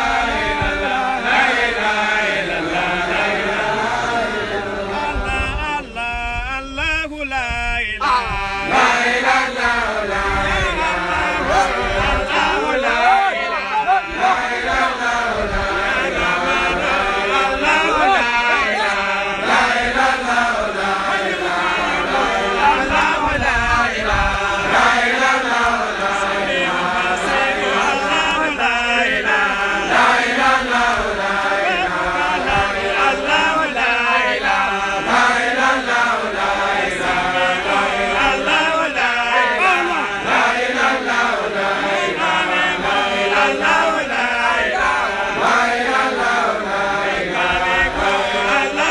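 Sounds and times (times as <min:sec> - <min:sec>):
man leading chant loudly: 0:00.0 - 0:48.9
men chanting together: 0:00.0 - 0:48.9.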